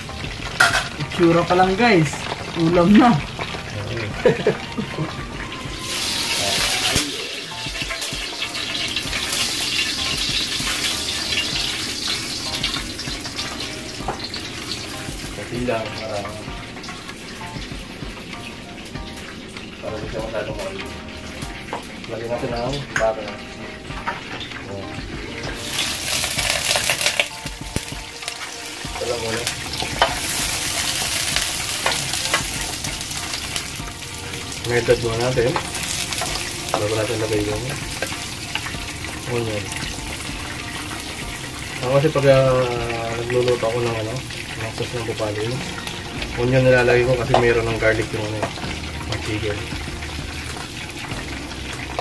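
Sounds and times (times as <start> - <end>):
butter sizzling in a wok: 0.0 - 52.0
chicken frying in hot oil: 0.0 - 52.0.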